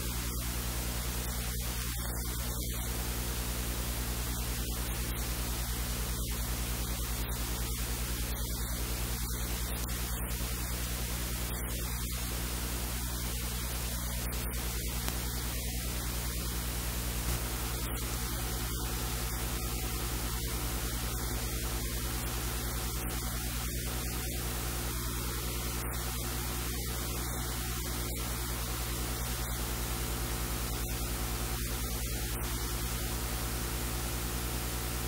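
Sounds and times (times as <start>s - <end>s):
low electrical hum: 0.0s - 35.0s
static hiss: 0.0s - 35.0s.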